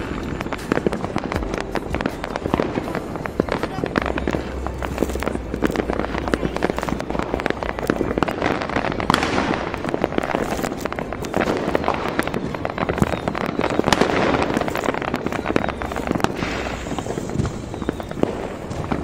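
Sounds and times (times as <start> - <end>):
fireworks crackling and popping: 0.0 - 19.0.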